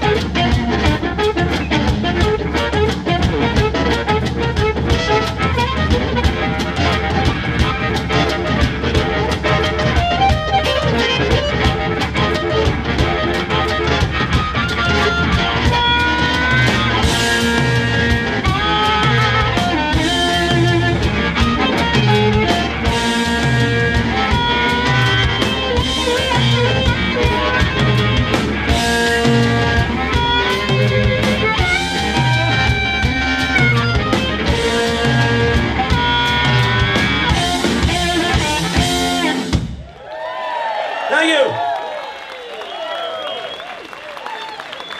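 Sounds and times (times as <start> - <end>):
amplified harmonica bending notes: 0.0 - 39.4
repeating bass line: 0.0 - 39.5
drum kit: 0.0 - 40.0
electric guitar: 0.0 - 40.0.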